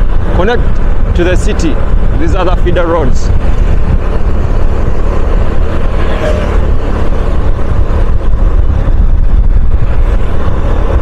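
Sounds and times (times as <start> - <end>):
motorcycle engine: 0.0 - 11.0
wind rush: 0.0 - 11.0.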